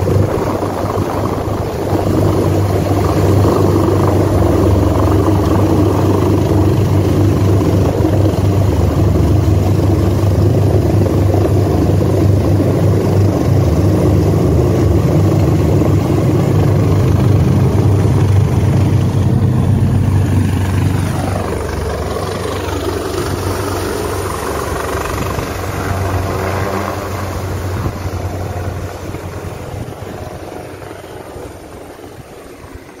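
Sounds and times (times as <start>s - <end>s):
helicopter hovering overhead: 0.0s - 33.0s.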